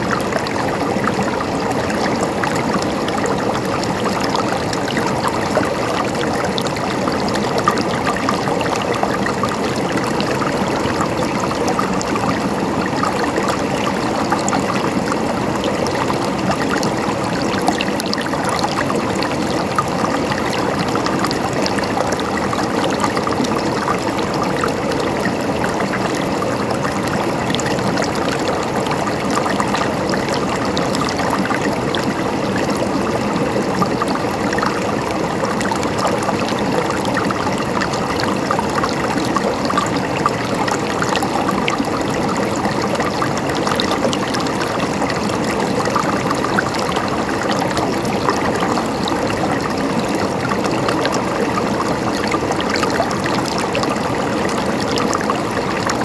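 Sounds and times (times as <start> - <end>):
flowing water gurgling: 0.0 - 56.0.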